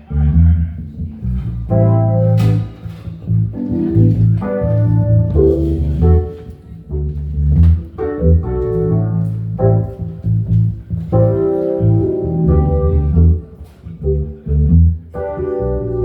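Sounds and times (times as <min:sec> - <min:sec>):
strong bass line: 0:00.0 - 0:16.0.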